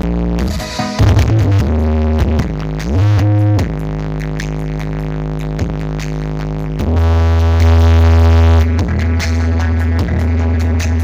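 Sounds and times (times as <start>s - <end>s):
deep sliding bass notes: 0.0s - 11.0s
loud electronic dance music: 0.0s - 11.0s.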